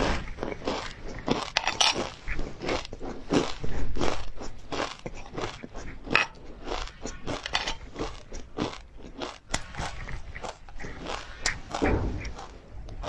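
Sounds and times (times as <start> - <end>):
crunching and chewing seeds: 0.0 - 13.0.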